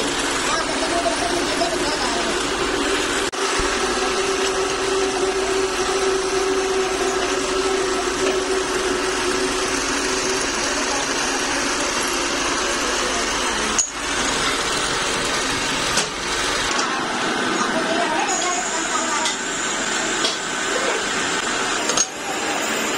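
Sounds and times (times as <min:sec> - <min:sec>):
pillar drill drilling steel: 0:00.0 - 0:22.9.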